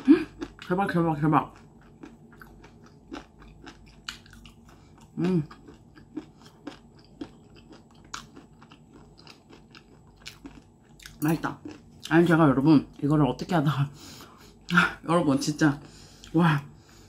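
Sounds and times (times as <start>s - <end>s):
crunchy chewing of fried chicken: 0.0s - 13.2s, 15.5s - 17.0s.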